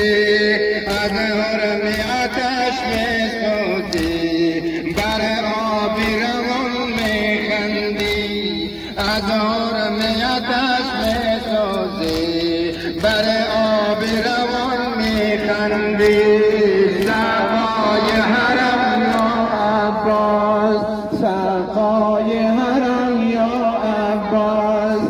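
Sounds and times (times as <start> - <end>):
sharp beats: 0.0 - 20.5
person chanting a lament: 0.0 - 25.0.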